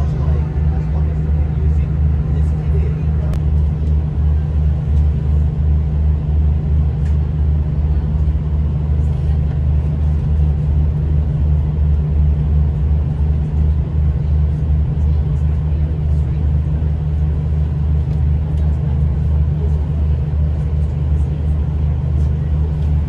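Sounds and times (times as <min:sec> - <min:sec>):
train carriage rumbling: 0:00.0 - 0:23.0.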